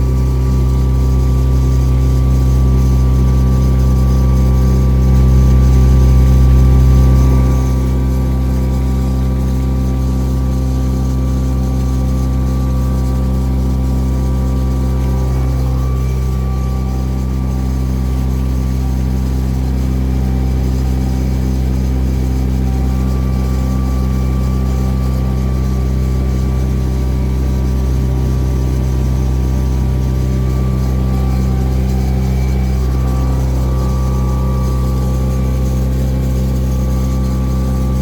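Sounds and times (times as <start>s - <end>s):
boat engine humming: 0.0s - 38.0s.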